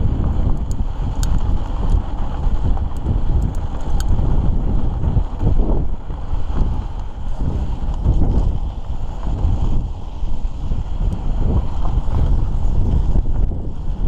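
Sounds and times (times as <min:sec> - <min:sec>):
bike clicks and rattles: 0:00.0 - 0:14.0
tyres rumbling on dirt trail: 0:00.0 - 0:14.0
wind buffeting microphone: 0:00.0 - 0:14.0.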